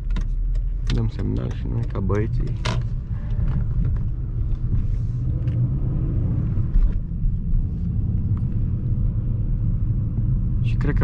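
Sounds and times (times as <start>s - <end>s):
car cabin engine rumble: 0.0s - 11.0s.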